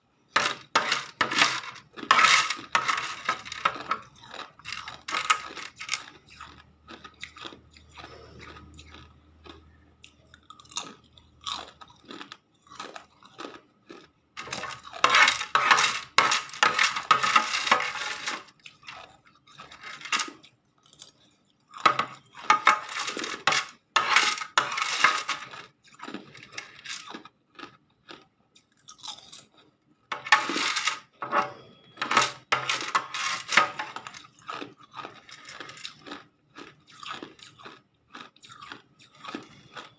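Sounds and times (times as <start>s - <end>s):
ice being chewed: 0.3s - 39.9s.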